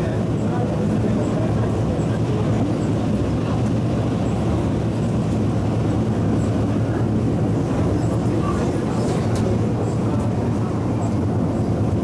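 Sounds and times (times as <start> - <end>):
train motors and wheels rumbling: 0.0 - 12.0.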